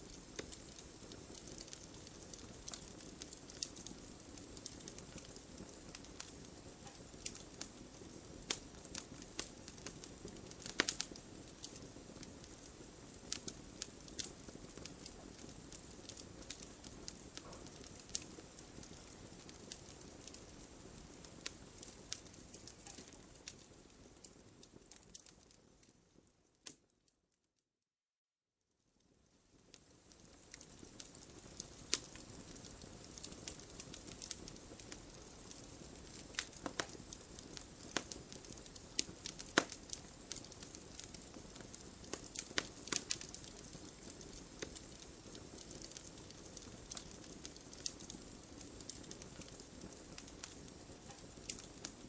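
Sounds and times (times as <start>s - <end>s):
hiss of burning: 0.0s - 25.3s, 29.6s - 52.0s
wood fire crackling and popping: 0.0s - 26.9s, 29.3s - 52.0s.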